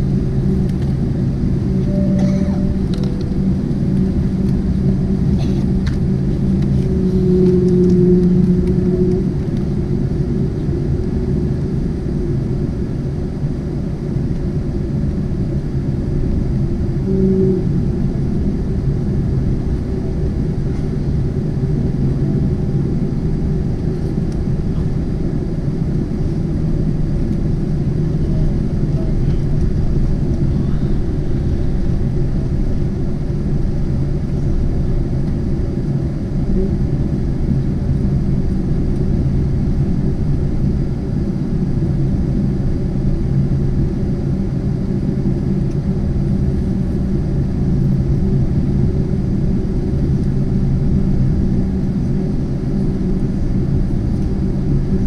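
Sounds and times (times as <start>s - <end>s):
airliner cabin low rumble: 0.0s - 55.0s
low hums: 0.0s - 55.0s.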